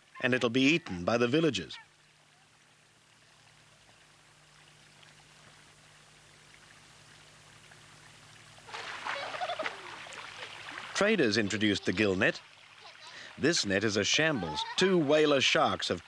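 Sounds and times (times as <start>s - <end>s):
field recording background noise: 0.0s - 16.0s
water splashing and trickling: 0.0s - 16.0s.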